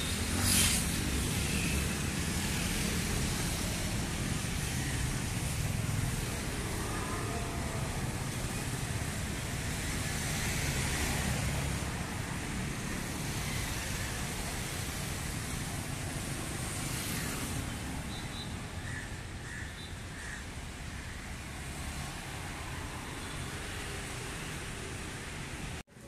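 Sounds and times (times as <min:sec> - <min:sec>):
city street traffic: 0:00.0 - 0:26.0.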